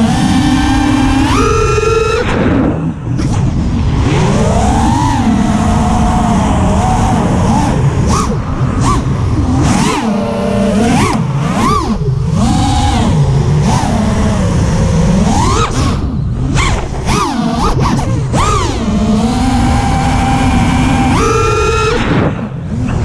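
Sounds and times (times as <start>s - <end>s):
drone motors whining: 0.0s - 23.0s
wind noise on microphone: 0.0s - 23.0s.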